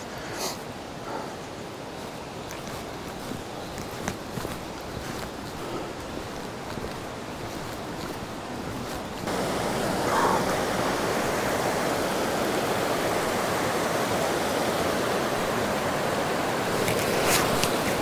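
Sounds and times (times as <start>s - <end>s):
stream rushing over boulders: 0.0s - 18.0s.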